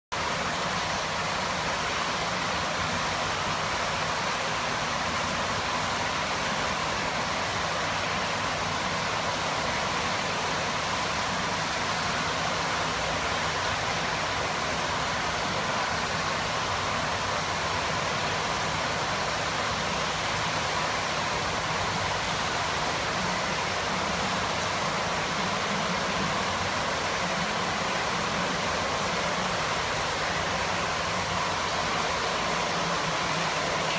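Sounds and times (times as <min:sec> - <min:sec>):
circulating pool water rushing: 0:00.1 - 0:33.9.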